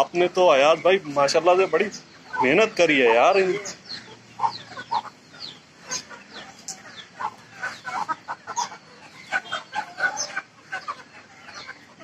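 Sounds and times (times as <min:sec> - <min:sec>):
chicks clucking and chirping: 0:00.0 - 0:12.0.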